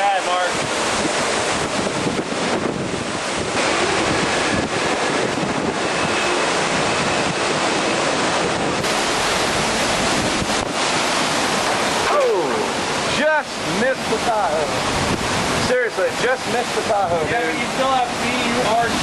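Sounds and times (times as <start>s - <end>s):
strong wind buffeting microphone: 0.3s - 19.0s.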